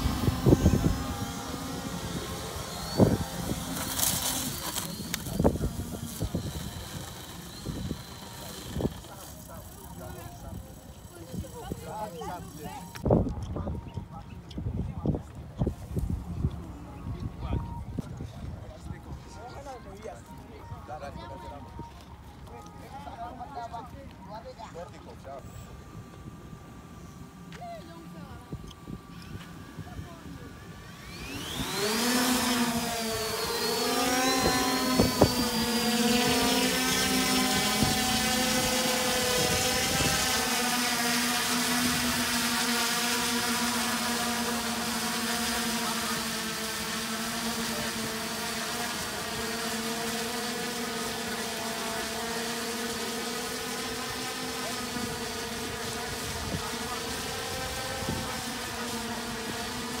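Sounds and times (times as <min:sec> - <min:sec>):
drone propellers buzzing: 0:00.0 - 1:00.0.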